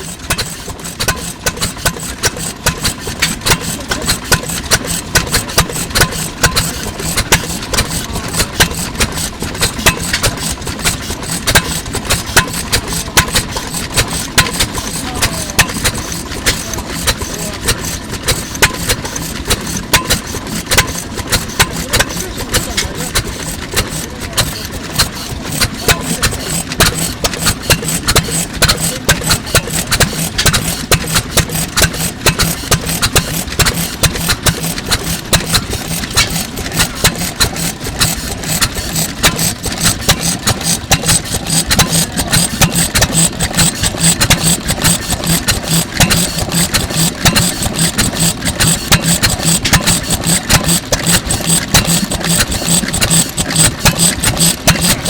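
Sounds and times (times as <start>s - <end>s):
stationary engine knocking: 0.0s - 55.0s.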